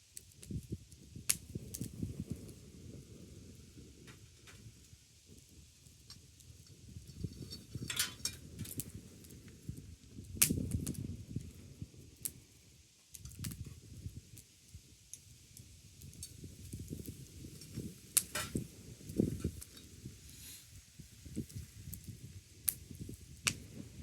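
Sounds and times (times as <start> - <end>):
campfire crackling: 0.1 - 24.0.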